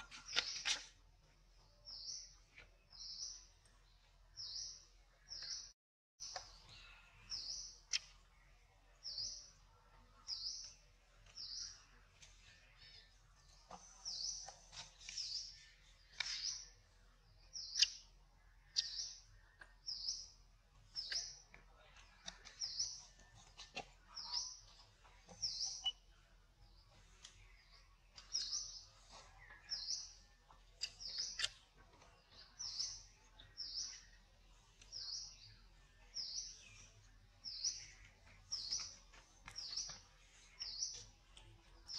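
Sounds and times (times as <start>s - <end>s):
bird chirping: 0.0s - 1.0s, 1.6s - 41.9s.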